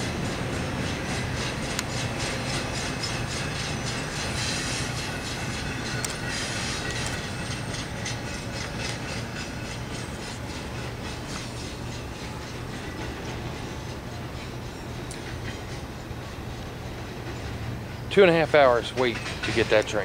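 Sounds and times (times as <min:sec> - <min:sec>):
train wheels clicking over rail joints: 0:00.0 - 0:20.0.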